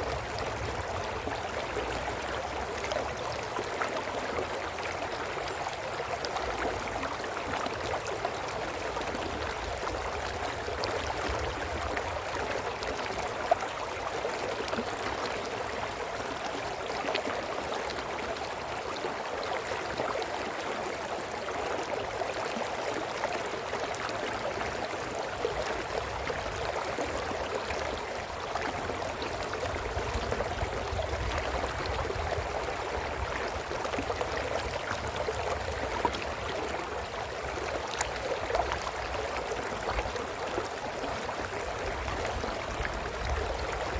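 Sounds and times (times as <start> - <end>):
brook flowing: 0.0 - 43.9.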